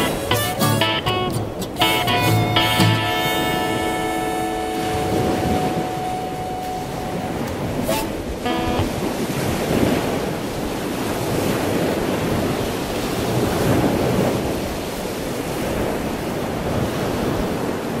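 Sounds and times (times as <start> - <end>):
ocean surf rushing: 0.0 - 18.0
wind buffeting microphone: 3.2 - 18.0.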